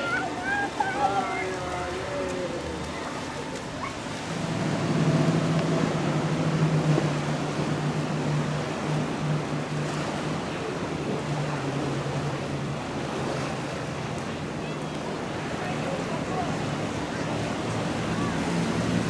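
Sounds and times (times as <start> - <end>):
powerboat engines droning: 0.0 - 19.0
water wash: 0.0 - 19.0
wind: 0.0 - 19.0.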